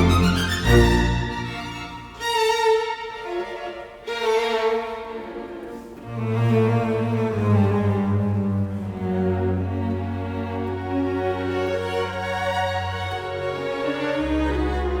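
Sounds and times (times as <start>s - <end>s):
cello and violin slow notes: 0.0s - 15.0s.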